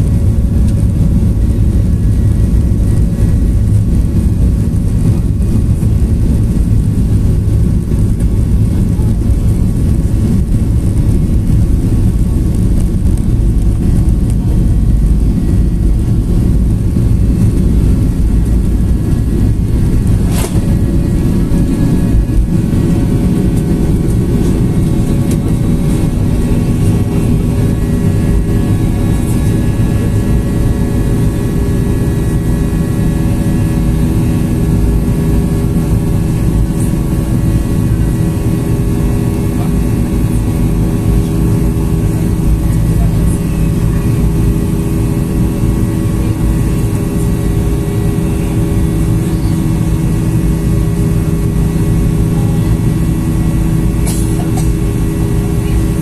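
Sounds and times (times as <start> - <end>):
airplane cabin engine rumble: 0.0 - 56.0
steady hum tones: 0.0 - 56.0.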